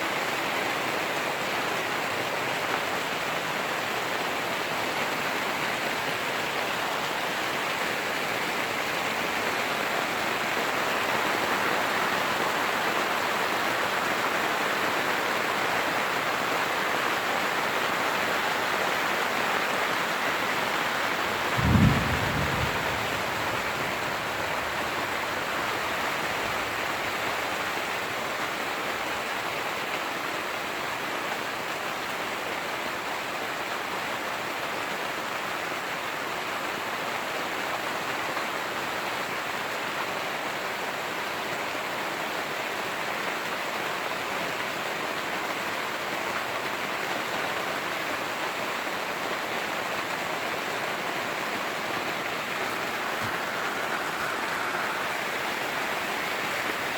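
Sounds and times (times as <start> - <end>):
heavy rain on tent fabric: 0.0 - 56.9.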